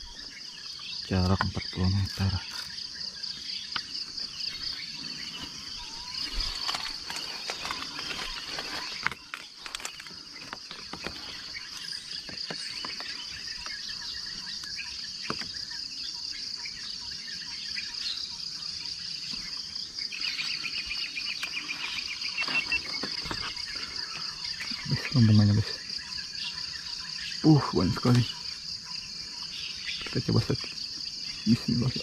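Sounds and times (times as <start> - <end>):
high-pitched insect chorus: 0.0 - 32.0
lower rapid insect trill: 0.0 - 32.0.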